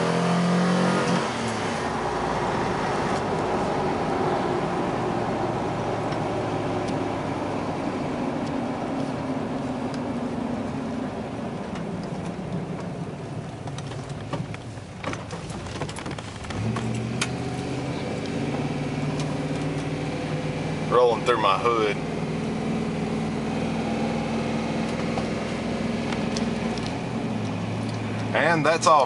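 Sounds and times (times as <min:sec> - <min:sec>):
truck engine and exhaust drone: 0:00.0 - 0:29.0.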